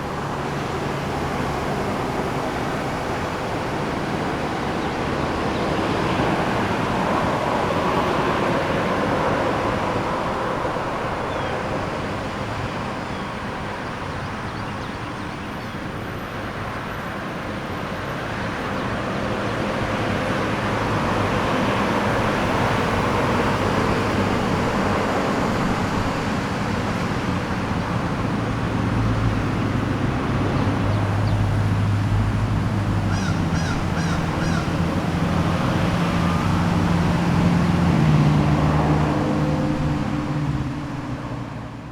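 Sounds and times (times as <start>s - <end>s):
cars passing: 0.0s - 41.9s
heavy vehicle engine hum: 0.0s - 41.9s.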